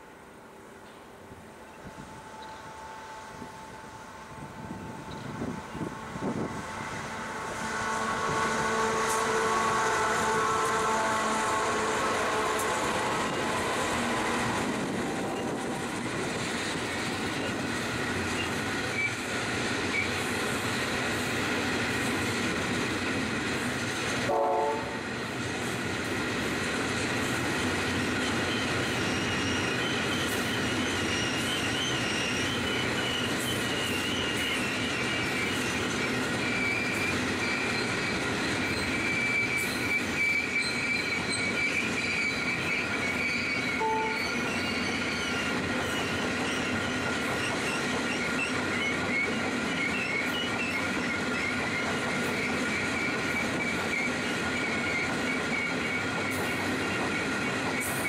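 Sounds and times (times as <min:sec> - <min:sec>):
rumble of wheels on rail: 0:00.0 - 0:58.0
train wheels squealing: 0:01.6 - 0:24.2, 0:25.0 - 0:58.0.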